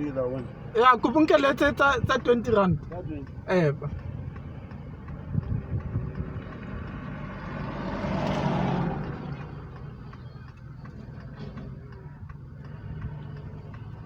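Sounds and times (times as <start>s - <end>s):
engine hum: 0.0s - 14.0s
vehicle passing by: 0.0s - 14.0s.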